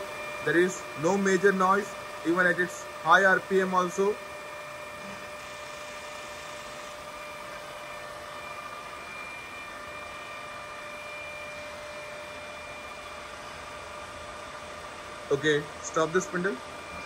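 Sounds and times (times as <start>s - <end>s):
drill head whirring: 0.0s - 17.0s.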